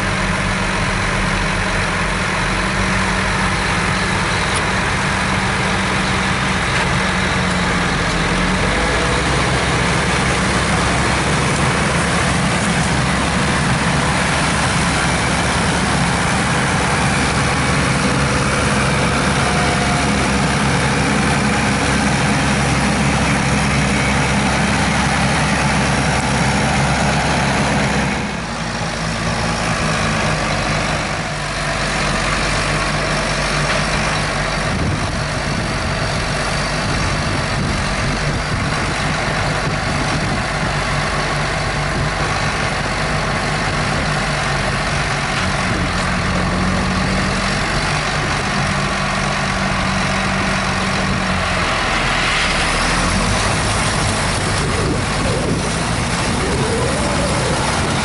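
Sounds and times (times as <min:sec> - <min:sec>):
harvester machinery noise: 0:00.0 - 0:58.0
tractor diesel engine under load: 0:00.0 - 0:58.0.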